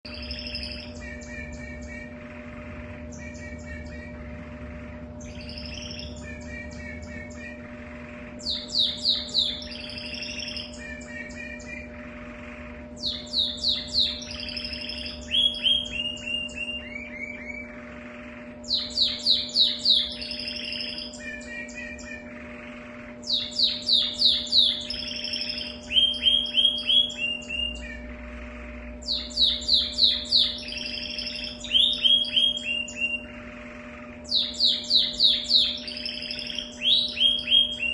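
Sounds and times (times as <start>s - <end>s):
canary singing: 0.0s - 37.9s
steady low hum: 0.0s - 37.9s.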